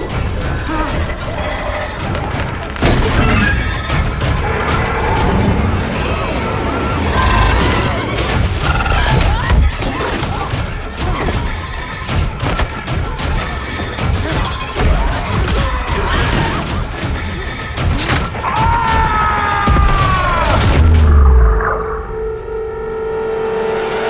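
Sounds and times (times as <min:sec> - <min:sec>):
crashes and impacts: 0:00.0 - 0:24.0
tense music: 0:00.0 - 0:24.0.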